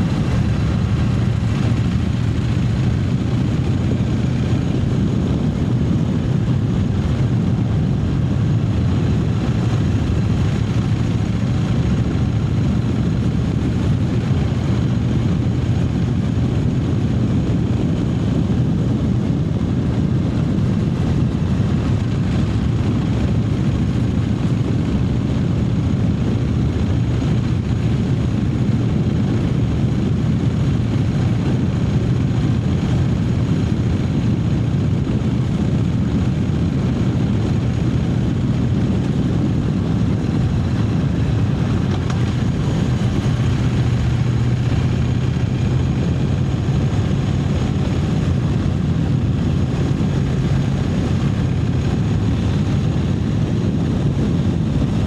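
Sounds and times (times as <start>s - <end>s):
motorcycle engine cruising: 0.0s - 55.0s
road and air noise: 0.0s - 55.0s.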